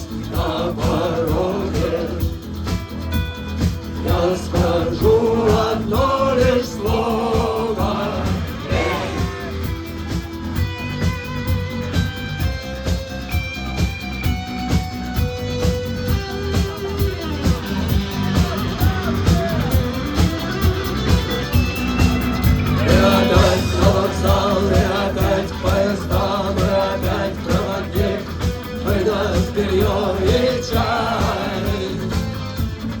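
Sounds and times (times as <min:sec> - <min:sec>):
live rock band playing: 0:00.0 - 0:33.0
steady drum beat: 0:00.0 - 0:33.0.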